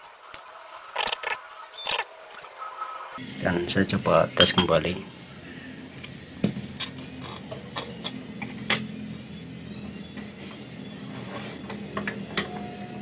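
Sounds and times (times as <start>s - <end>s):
steady low hum: 2.5s - 13.0s.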